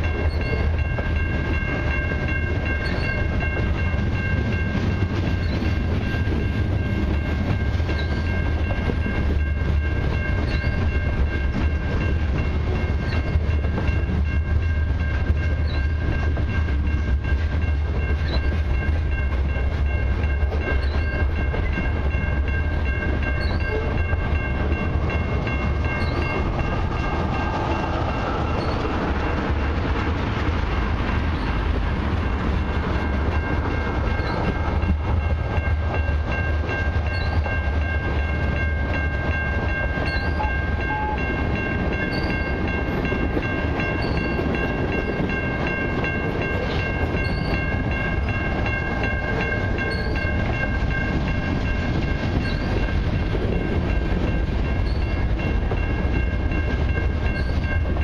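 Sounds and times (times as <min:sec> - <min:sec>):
freight cars rumbling over rails: 0:00.0 - 0:58.0
level crossing warning bell: 0:00.0 - 0:58.0.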